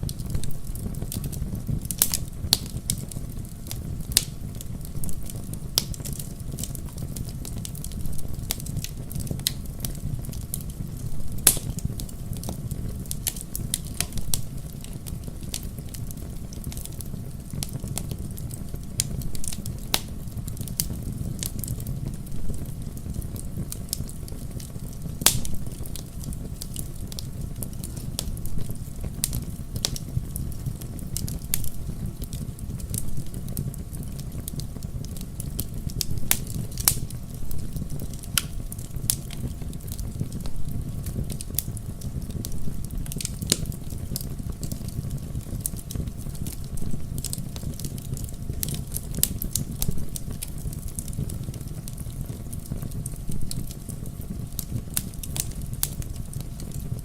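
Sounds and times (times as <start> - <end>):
sharp pops of fire: 0.0 - 57.0
wood fire crackling: 0.0 - 57.0.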